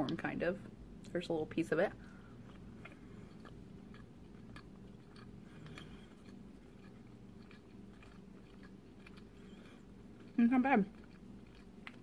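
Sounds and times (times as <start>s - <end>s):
low room hum: 0.0s - 12.0s
soft chewing: 1.8s - 12.0s.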